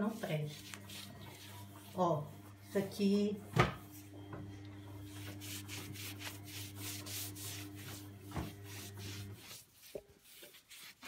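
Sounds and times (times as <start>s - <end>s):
cloth wiping a hard surface: 0.0s - 4.2s, 4.9s - 11.0s.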